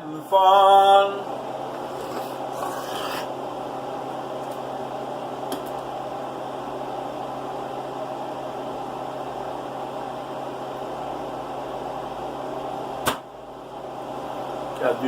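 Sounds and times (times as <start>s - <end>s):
appliance or fan humming: 0.0s - 15.0s.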